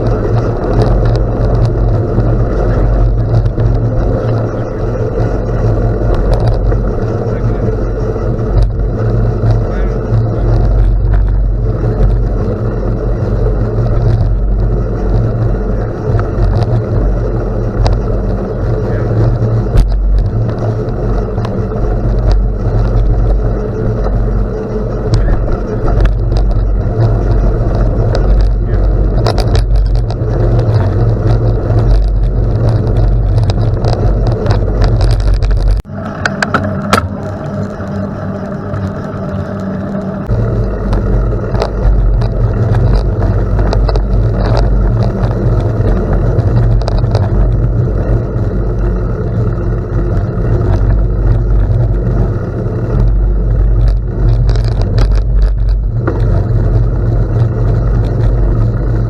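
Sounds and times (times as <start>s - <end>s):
bicycle on gravel road: 0.0s - 59.0s
small clicks and rattles: 0.0s - 59.0s
wind rumbling on microphone: 0.0s - 59.0s.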